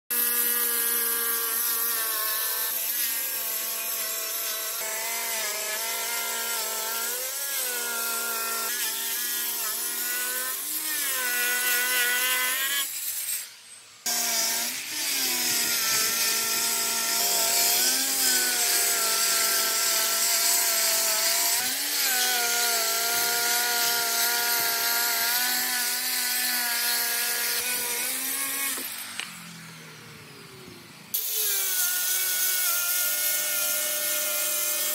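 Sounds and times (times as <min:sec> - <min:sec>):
stone cutter grinding: 0:00.1 - 0:29.8, 0:31.1 - 0:34.9.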